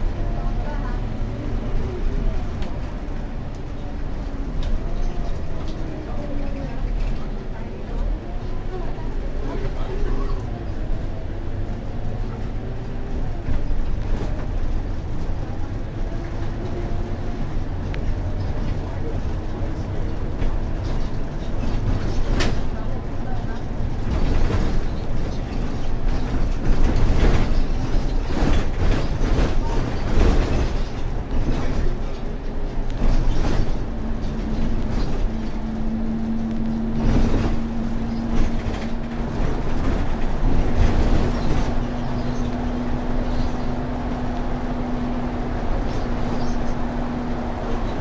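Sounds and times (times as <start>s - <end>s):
bus diesel engine running: 0.0s - 48.0s
road noise: 0.0s - 48.0s.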